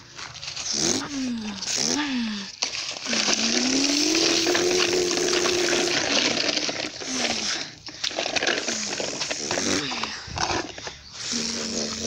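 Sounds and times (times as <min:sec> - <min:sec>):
person imitating engine noise: 0:00.7 - 0:07.8, 0:08.5 - 0:12.0.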